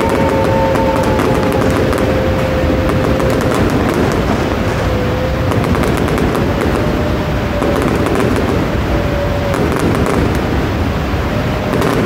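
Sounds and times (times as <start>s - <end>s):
fireworks bursting and crackling: 0.0s - 12.0s
low rumble: 0.0s - 12.0s.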